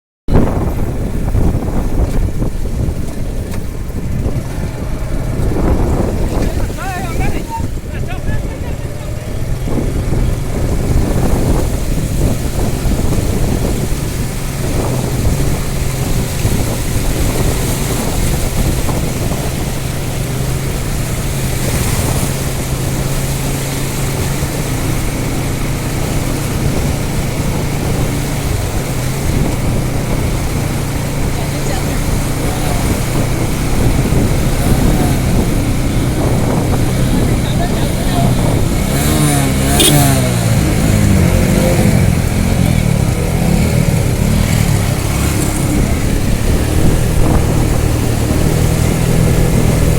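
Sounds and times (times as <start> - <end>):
vehicle engine running: 0.3 - 49.9
rushing noise: 2.8 - 49.9.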